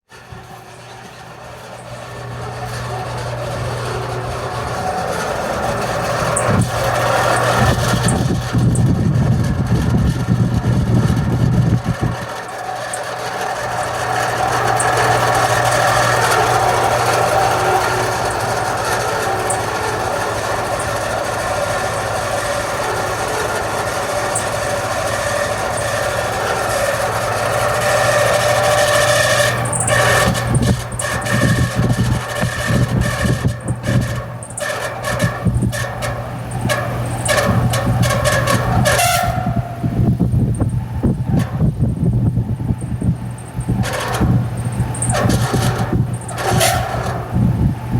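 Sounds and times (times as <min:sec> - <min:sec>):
fan motor screeching: 0:00.0 - 0:47.9.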